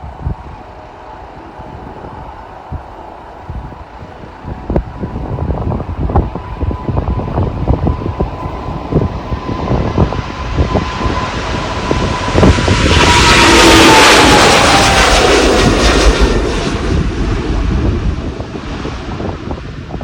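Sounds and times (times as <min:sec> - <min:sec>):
jet engines whining: 0:00.0 - 0:20.0
wind buffeting microphone: 0:00.0 - 0:20.0.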